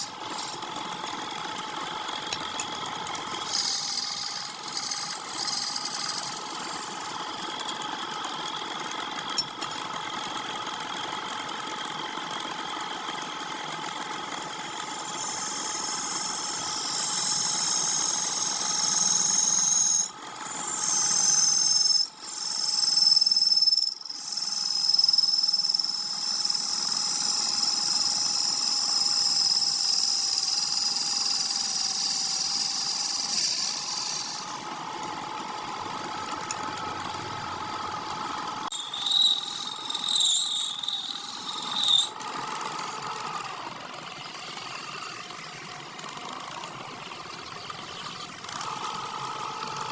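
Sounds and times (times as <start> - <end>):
wood lathe motor hum: 0.0 - 49.9.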